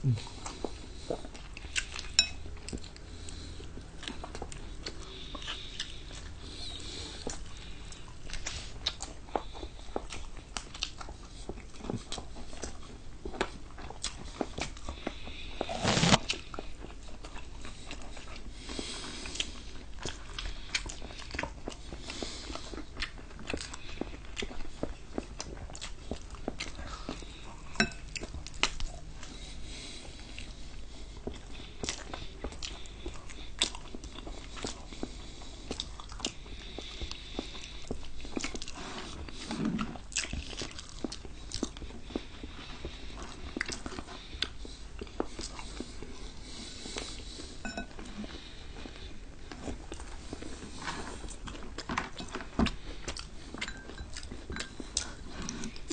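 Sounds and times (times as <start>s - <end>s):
chewing fried chicken: 0.0s - 55.9s.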